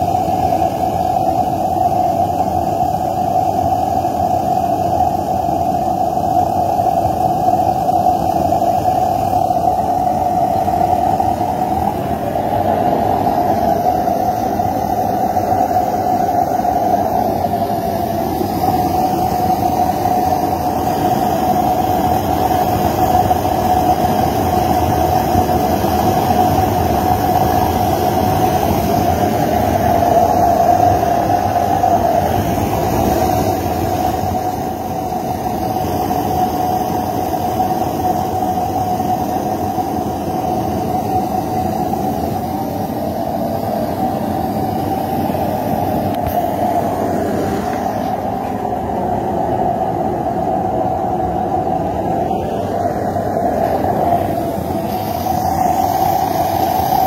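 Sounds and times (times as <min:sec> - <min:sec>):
burner flame roaring: 0:00.0 - 0:57.0.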